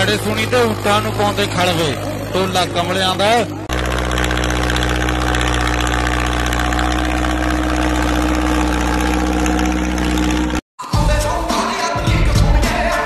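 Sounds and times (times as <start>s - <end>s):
tractor diesel engine idling: 0.0s - 10.6s.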